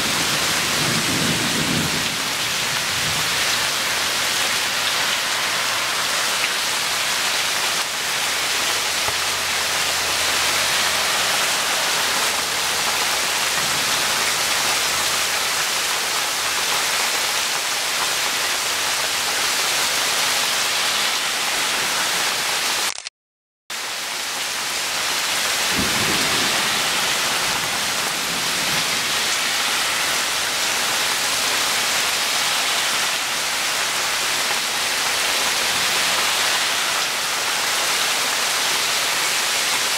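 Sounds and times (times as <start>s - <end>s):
heavy rain on standing water: 0.0s - 23.1s, 23.7s - 39.9s.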